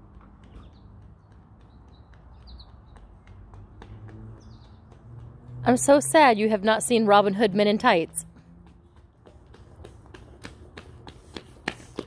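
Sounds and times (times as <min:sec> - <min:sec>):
flip-flop footsteps on concrete: 0:00.0 - 0:12.0.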